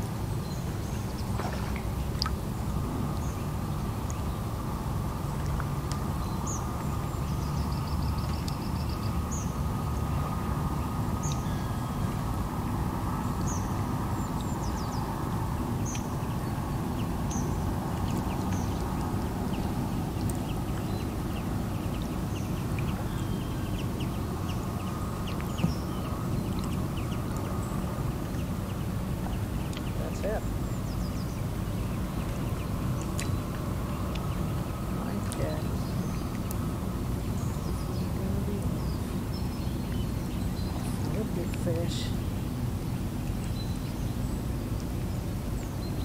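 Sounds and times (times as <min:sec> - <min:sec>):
low outdoor rumble: 0:00.0 - 0:46.0
small birds chirping: 0:00.0 - 0:46.0.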